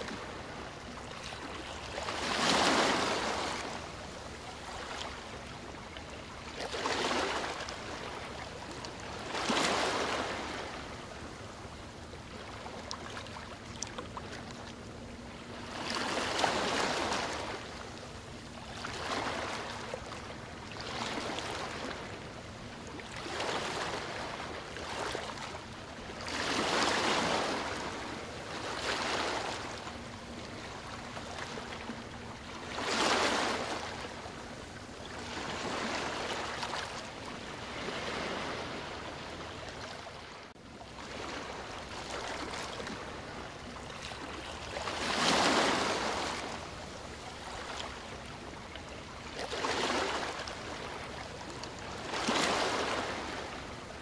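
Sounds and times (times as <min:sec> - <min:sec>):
faint steady hum: 0:00.0 - 0:54.0
waves washing onto a bank: 0:00.0 - 0:54.0.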